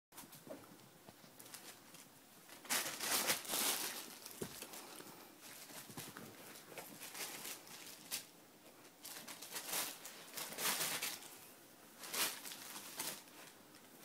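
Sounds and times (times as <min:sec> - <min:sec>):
animal rustling a bag: 0:01.4 - 0:08.3, 0:09.0 - 0:13.6.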